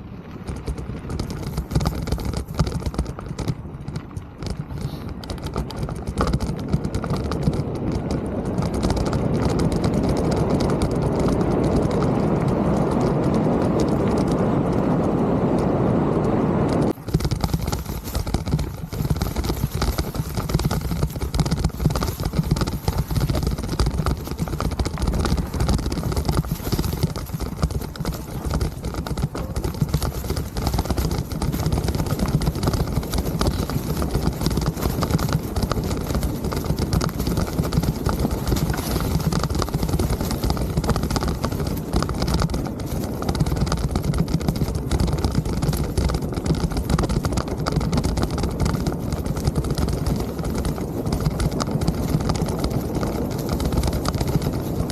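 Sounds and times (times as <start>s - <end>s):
bike clattering and rattling: 0.0s - 54.9s
wind rumble on microphone: 0.0s - 54.9s.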